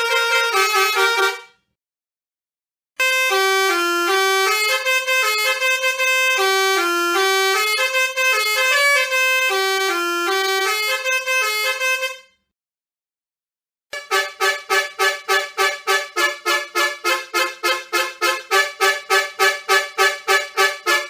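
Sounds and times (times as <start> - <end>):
musical bus air horn melody: 0.0 - 1.7, 3.0 - 12.5, 13.9 - 21.0.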